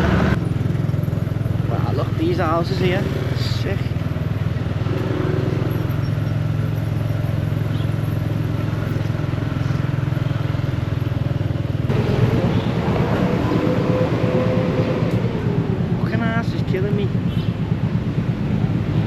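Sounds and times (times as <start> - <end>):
road and wind noise: 0.0 - 19.0
small motorcycle engine running: 0.0 - 19.0.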